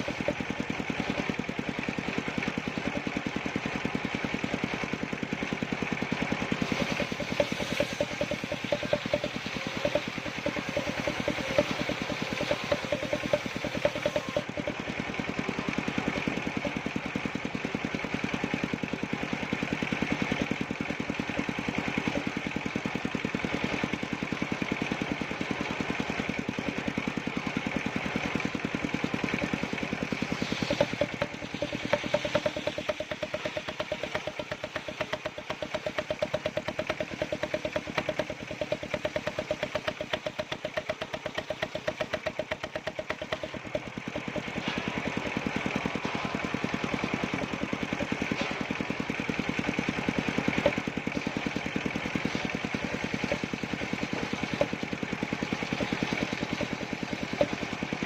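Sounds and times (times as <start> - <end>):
wood-cutting machine engine running: 0.0 - 58.0.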